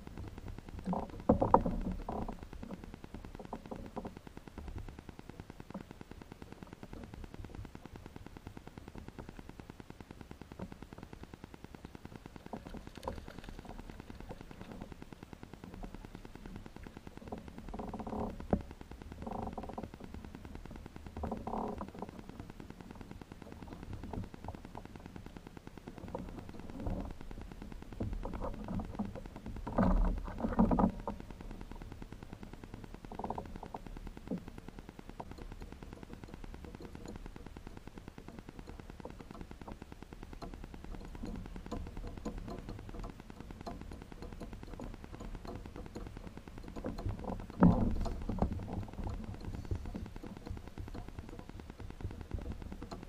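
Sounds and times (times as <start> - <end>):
crackling interference: 0.0 - 53.0
low hum: 0.0 - 53.0.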